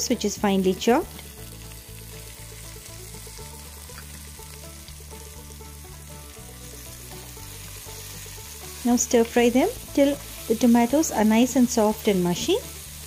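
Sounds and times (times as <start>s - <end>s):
background music with low notes: 0.0s - 13.0s
vegetables sizzling in oil: 0.0s - 13.0s.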